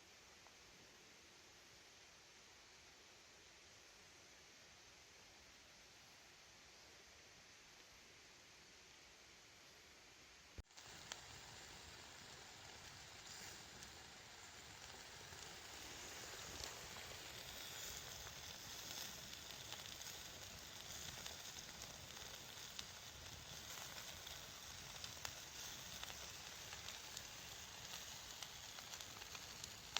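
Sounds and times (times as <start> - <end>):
campfire hissing and crackling: 0.0 - 29.9.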